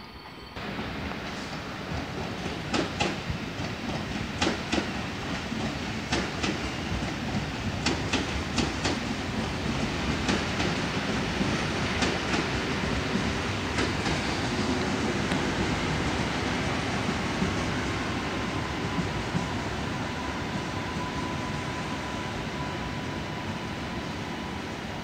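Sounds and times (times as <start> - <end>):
train rolling rumble: 0.0 - 25.0.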